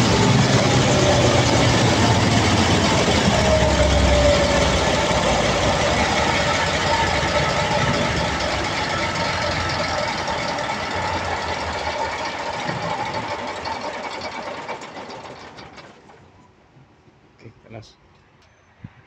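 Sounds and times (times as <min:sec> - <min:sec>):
diesel generator running: 0:00.0 - 0:16.5.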